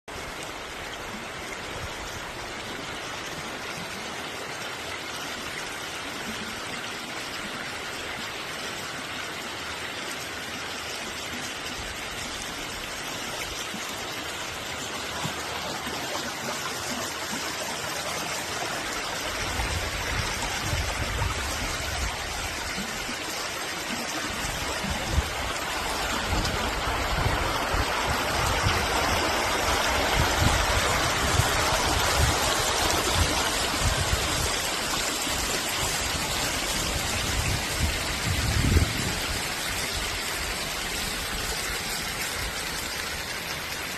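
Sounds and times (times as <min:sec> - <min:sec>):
stream water rushing: 0:00.1 - 0:43.9.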